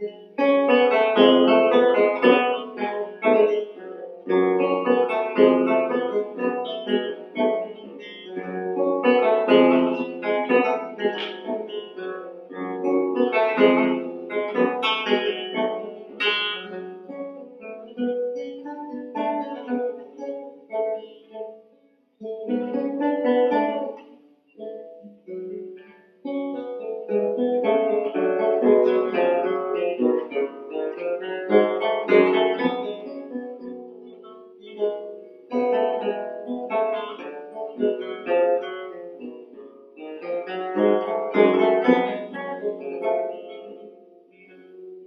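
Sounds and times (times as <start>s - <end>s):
plucked guitar background music: 0.0s - 45.0s.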